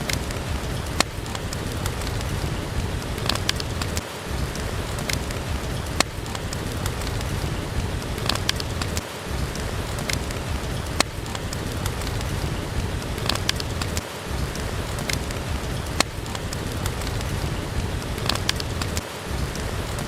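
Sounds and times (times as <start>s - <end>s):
steady rain: 0.0s - 20.0s
wood fire crackling pops: 0.0s - 20.0s.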